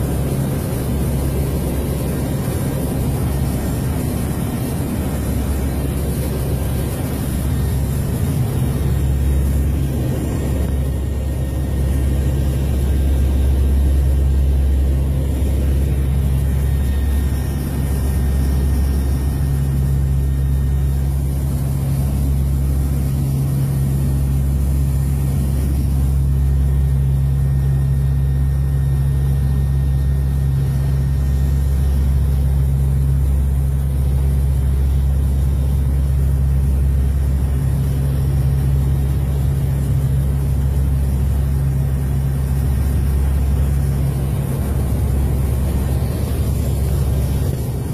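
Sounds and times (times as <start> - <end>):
aircraft engines droning in cabin: 0.0 - 47.9.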